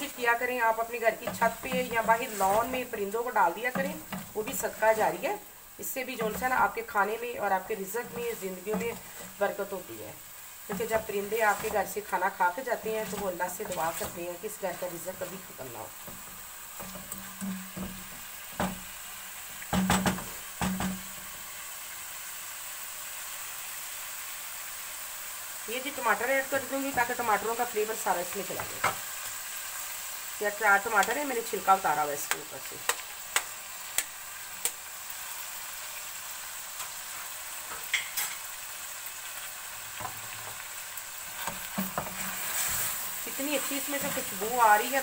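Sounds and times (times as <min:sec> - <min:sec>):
food sizzling in a pot: 0:00.0 - 0:45.0.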